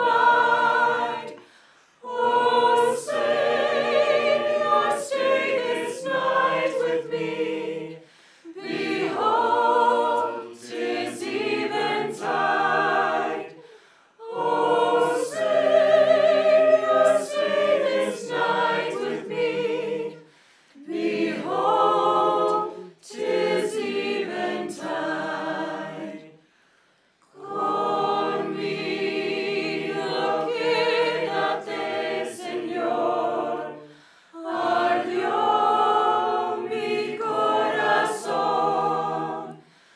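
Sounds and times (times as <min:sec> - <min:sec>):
choir singing a hymn: 0:00.0 - 0:26.6, 0:27.2 - 0:39.9.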